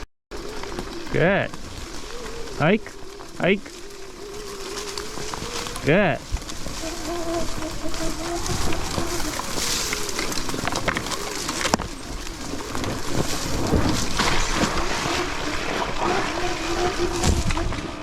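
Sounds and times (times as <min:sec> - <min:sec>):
dirt bike riding noise: 0:00.3 - 0:18.0.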